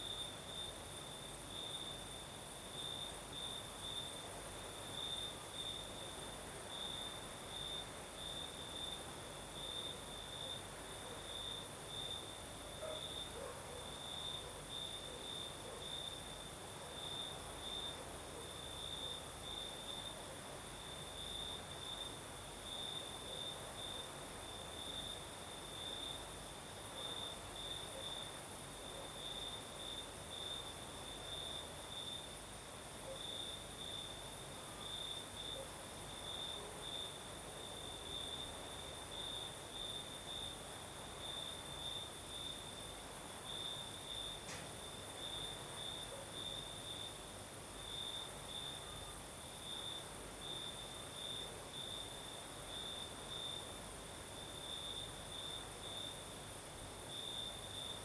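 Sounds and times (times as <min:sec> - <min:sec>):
crickets chirping: 0:00.0 - 0:58.0
faint breeze: 0:00.0 - 0:58.0.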